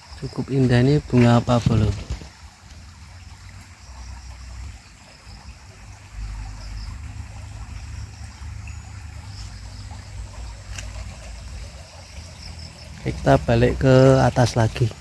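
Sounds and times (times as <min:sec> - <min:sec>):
stream trickling over rocks: 0:00.0 - 0:15.0.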